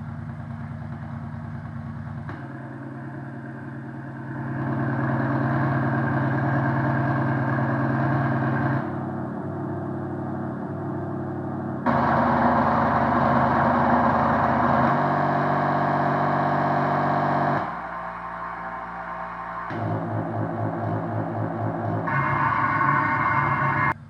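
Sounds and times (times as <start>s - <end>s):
synthetic engine idle from speaker: 0.0s - 24.0s.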